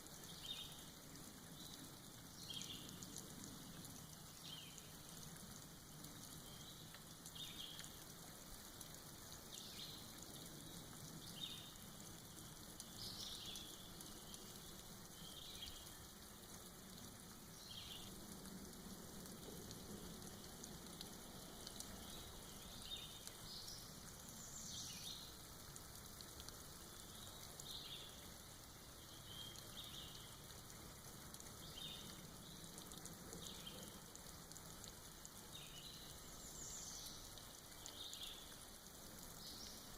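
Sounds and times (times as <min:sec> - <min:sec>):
rain dripping off moss: 0:00.0 - 0:39.9.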